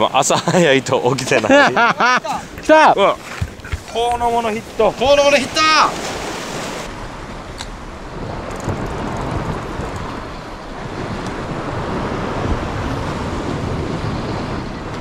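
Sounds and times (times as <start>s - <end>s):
sea waves washing over rocks: 2.4s - 15.0s
wind buffeting microphone: 2.4s - 15.0s.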